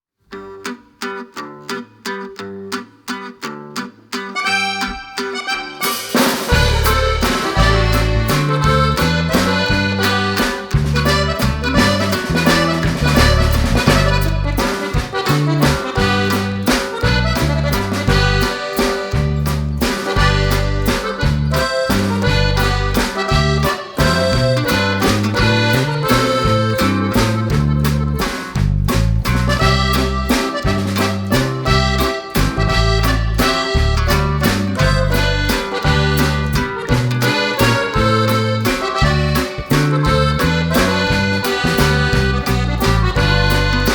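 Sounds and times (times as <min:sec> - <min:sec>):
instrumental background music: 0:04.3 - 0:43.9.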